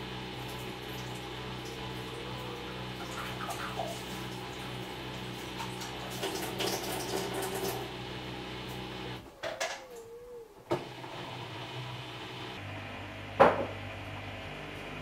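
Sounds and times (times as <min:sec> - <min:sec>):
washing machine motor humming: 0:00.0 - 0:15.0.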